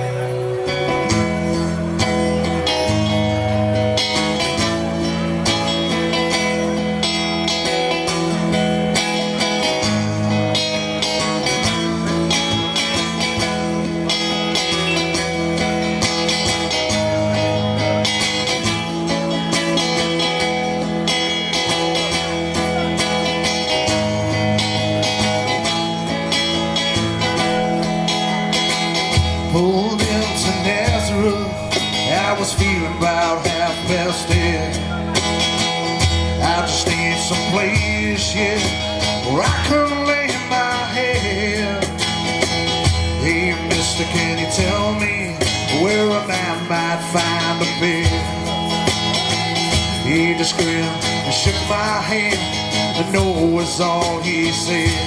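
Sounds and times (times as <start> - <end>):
live band playing: 0.0 - 55.0
strummed guitar: 0.0 - 55.0.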